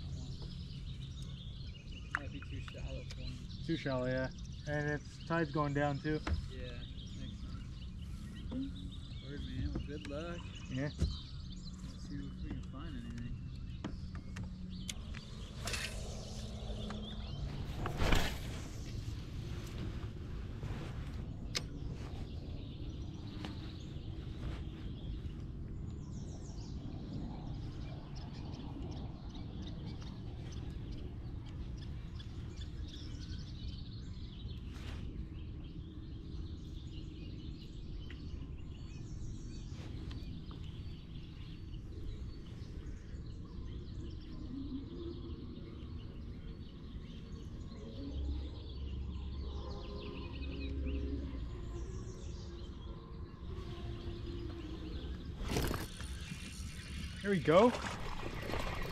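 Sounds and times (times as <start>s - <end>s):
birds chirping: 0.0s - 58.9s
low background rumble: 0.0s - 58.9s.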